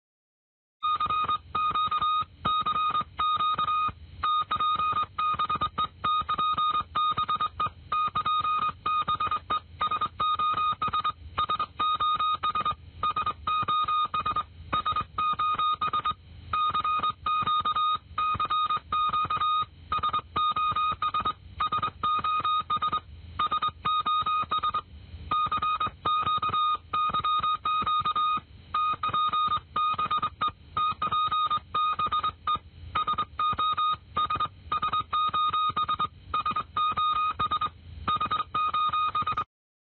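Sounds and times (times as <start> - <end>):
morse code beeps: 0.8 - 39.5.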